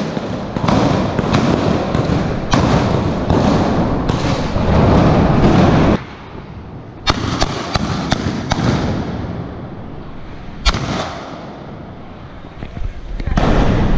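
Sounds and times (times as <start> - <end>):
guns firing blank shots: 0.0 - 11.9.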